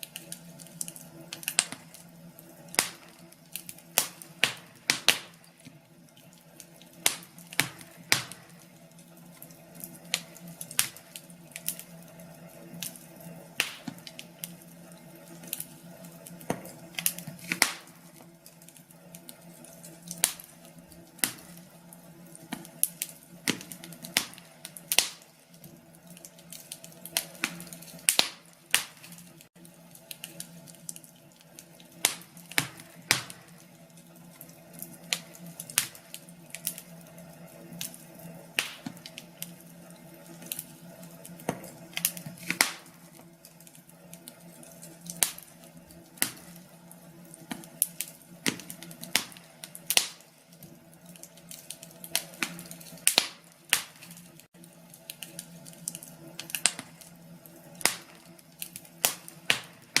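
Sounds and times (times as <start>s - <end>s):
wood fire popping and snapping: 0.0s - 60.0s.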